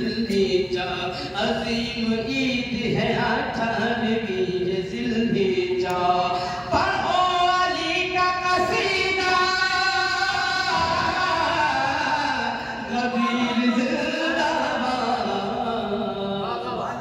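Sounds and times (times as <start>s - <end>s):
man singing devotional song: 0.0s - 17.0s.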